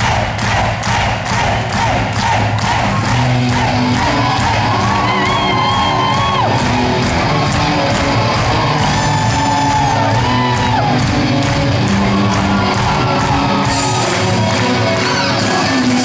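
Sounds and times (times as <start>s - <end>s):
crowd shouting: 0.0s - 16.0s
live rock band playing: 3.1s - 16.0s.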